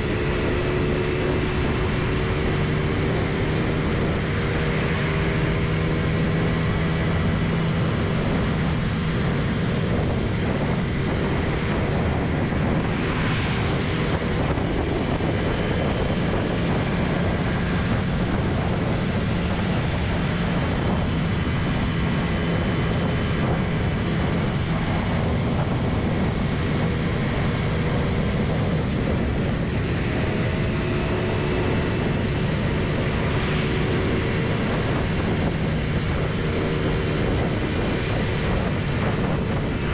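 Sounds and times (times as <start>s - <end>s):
motorbike engine hum: 0.0s - 39.9s
wind and road noise: 0.0s - 39.9s.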